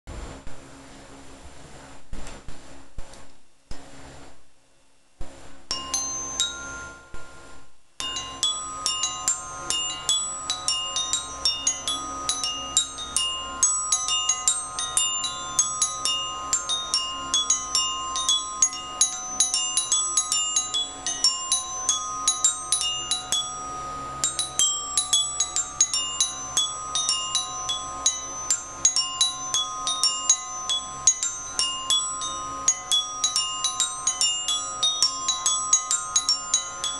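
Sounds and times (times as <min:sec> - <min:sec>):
glockenspiel notes: 0:05.7 - 0:36.9.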